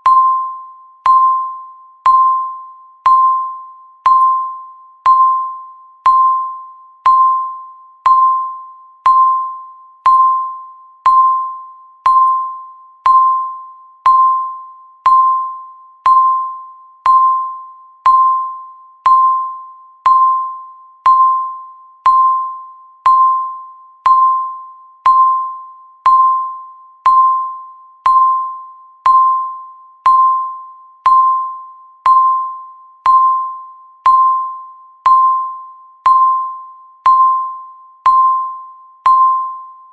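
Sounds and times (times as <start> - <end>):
timer ticking pings: 0.0 - 39.9.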